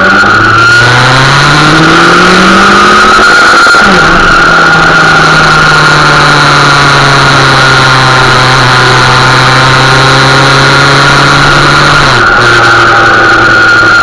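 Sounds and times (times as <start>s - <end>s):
high whine: 0.0s - 14.0s
motorcycle engine running: 0.0s - 14.0s
rushing noise: 0.0s - 14.0s.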